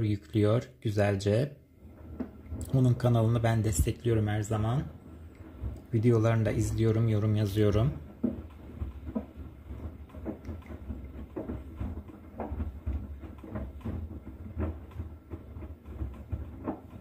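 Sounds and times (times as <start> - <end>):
washing machine drum rumble: 0.0 - 17.0
water sloshing in washing machine: 0.0 - 17.0.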